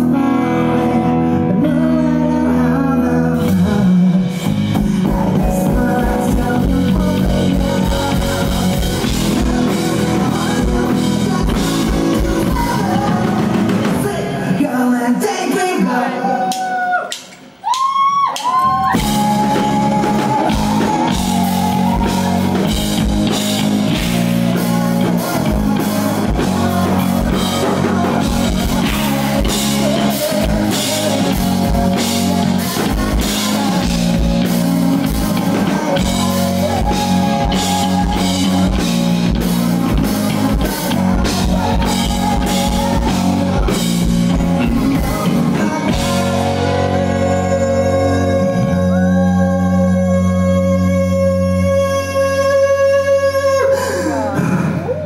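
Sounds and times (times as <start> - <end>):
rock band playing live: 0.0 - 16.4, 17.2 - 55.0.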